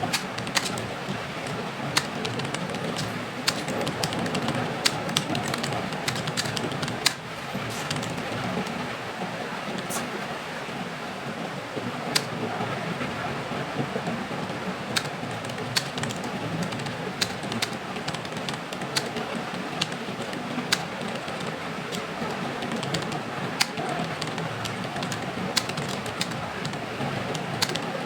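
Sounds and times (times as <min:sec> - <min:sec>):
computer keyboard keystrokes: 0:00.0 - 0:08.8, 0:12.2 - 0:12.4, 0:14.4 - 0:28.0
steady background noise: 0:00.0 - 0:28.0.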